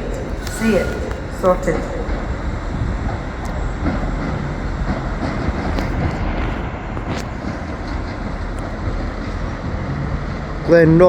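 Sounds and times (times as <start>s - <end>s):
trains rumbling: 0.0s - 11.0s.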